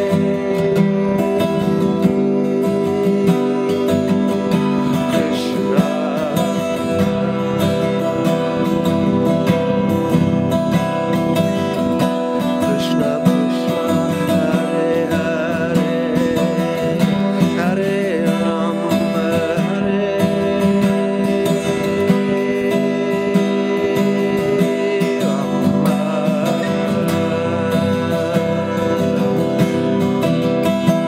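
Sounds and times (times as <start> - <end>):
acoustic guitar strumming chords: 0.0 - 31.0.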